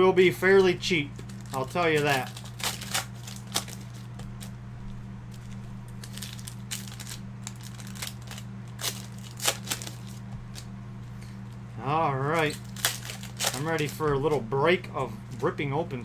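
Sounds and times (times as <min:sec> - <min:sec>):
low electrical hum: 0:00.0 - 0:16.0
plastic packaging crinkling: 0:00.5 - 0:11.6, 0:12.3 - 0:14.4.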